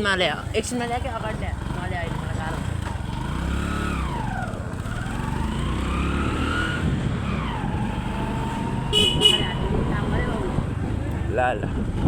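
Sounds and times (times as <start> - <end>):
vehicle engine revving: 1.0 - 12.0.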